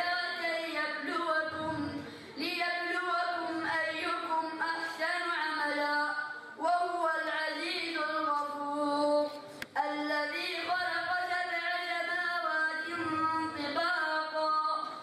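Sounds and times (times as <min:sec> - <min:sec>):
boy chanting into a microphone: 0:00.0 - 0:15.0.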